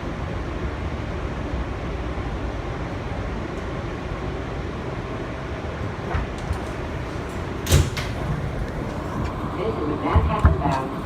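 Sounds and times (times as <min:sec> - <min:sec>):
subway car rumble: 0:00.0 - 0:11.0.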